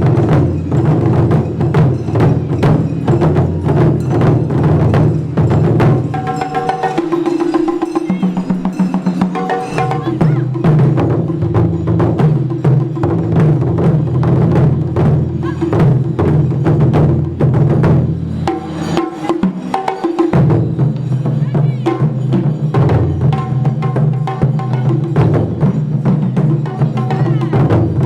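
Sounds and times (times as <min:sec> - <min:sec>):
festival drums: 0:00.0 - 0:28.0.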